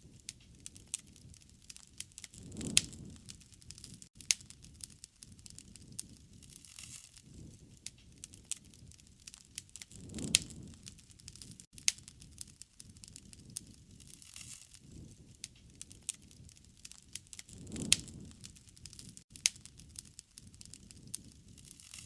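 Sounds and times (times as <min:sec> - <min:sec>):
low rush of flame: 0:00.0 - 0:22.0
wood fire crackling: 0:00.0 - 0:22.0.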